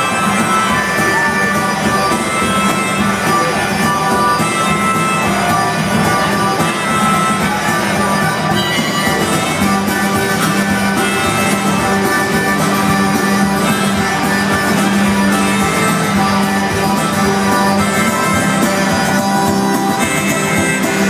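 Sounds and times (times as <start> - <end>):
acoustic guitar strumming: 0.0 - 21.0
harmonica notes: 0.0 - 21.0.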